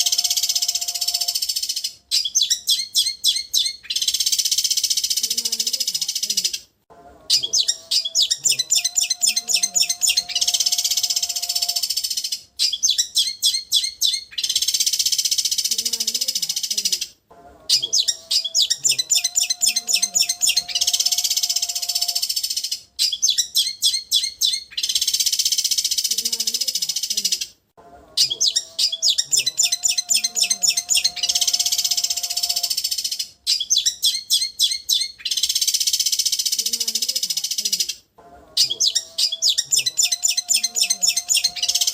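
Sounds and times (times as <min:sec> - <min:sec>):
bird singing high notes and trills: 0:00.0 - 0:05.6, 0:07.3 - 0:16.2, 0:17.7 - 0:26.6, 0:28.1 - 0:36.7, 0:38.3 - 0:41.9.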